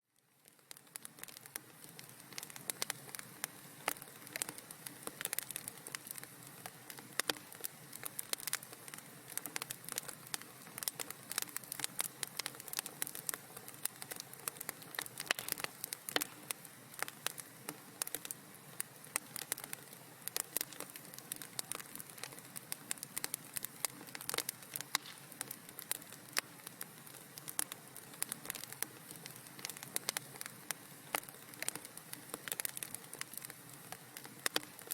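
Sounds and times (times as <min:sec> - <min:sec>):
soft hiss of flames: 0:00.0 - 0:34.9
wood fire crackling and popping: 0:00.2 - 0:34.9.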